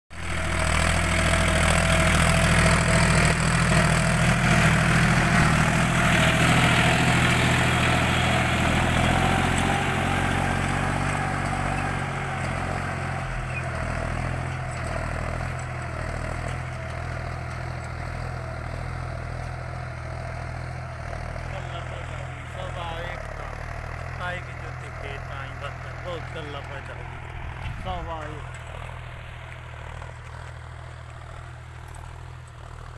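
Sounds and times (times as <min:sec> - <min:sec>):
tractor diesel engine under load: 0:00.1 - 0:32.9.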